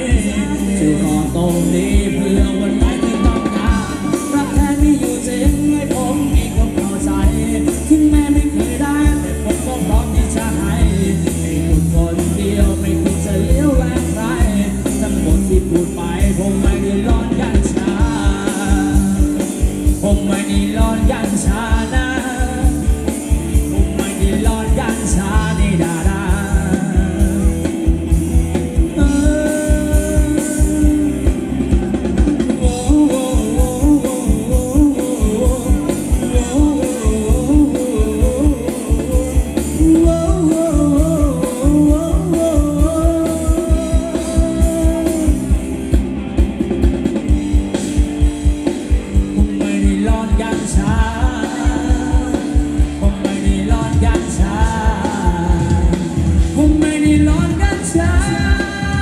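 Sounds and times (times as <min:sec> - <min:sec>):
fast drum beat: 0:00.0 - 0:59.0
live band dance music: 0:00.0 - 0:59.0.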